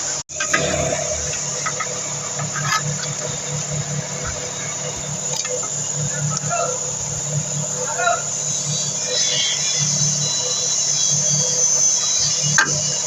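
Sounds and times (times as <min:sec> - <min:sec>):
engine idling: 0:00.0 - 0:11.2.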